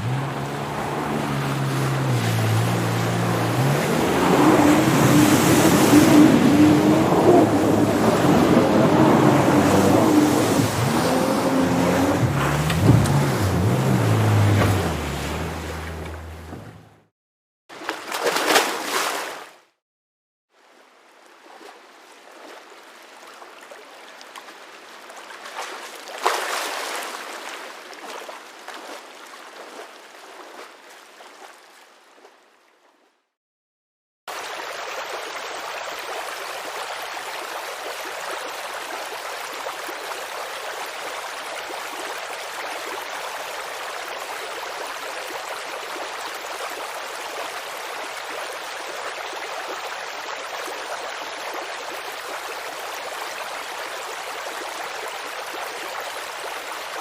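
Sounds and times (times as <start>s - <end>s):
stream rushing: 0.0s - 17.0s, 20.6s - 31.9s, 34.3s - 57.0s
flowing water: 0.0s - 17.1s, 20.5s - 33.2s, 34.3s - 57.0s.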